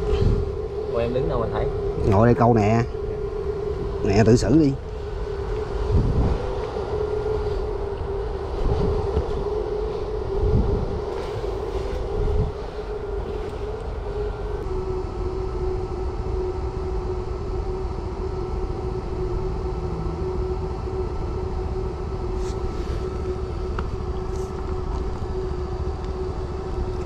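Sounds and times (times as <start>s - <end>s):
small engine running steadily: 0.0s - 27.0s
wind rumbling on microphone: 0.0s - 27.0s.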